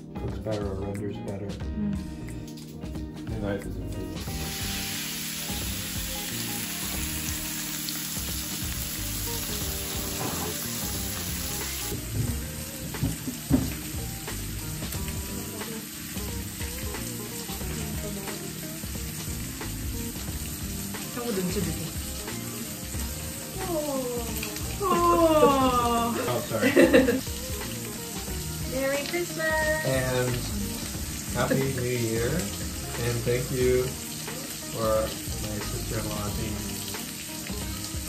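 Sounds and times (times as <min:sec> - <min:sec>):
background music: 0:00.0 - 0:38.0
meat sizzling in a pan: 0:04.2 - 0:38.0.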